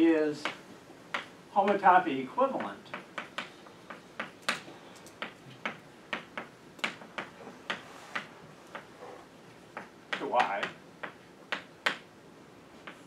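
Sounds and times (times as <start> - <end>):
chalk tapping and scratching on blackboard: 0.4 - 1.9, 2.5 - 12.1, 12.8 - 13.0.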